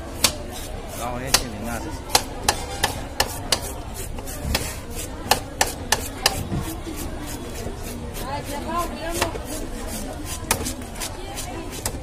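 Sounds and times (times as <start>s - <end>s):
knife scraping fish scales: 0.1s - 12.0s.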